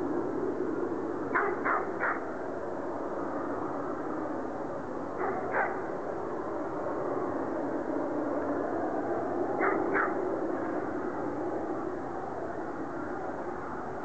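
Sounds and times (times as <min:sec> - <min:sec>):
steady distant roar: 0:00.0 - 0:14.0.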